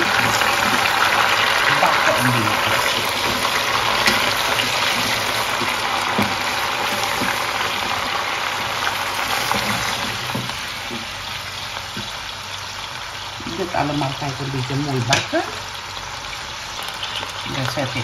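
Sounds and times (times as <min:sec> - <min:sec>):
oil sizzling in a pot: 0:00.0 - 0:18.0.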